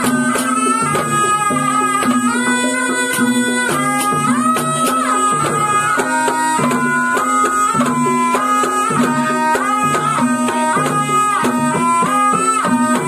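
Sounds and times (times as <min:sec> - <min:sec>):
drum strokes: 0:00.0 - 0:13.0
shawm playing wavering melody: 0:00.0 - 0:13.0.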